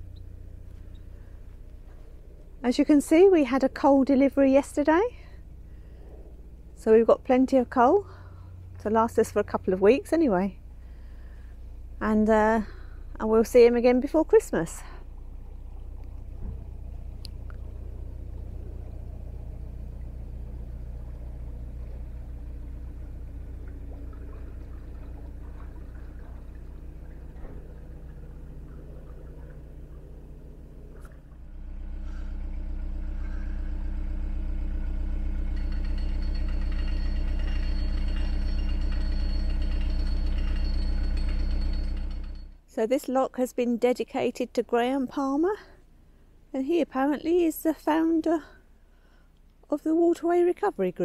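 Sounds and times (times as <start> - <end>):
diesel boat engine running: 0.0 - 42.7.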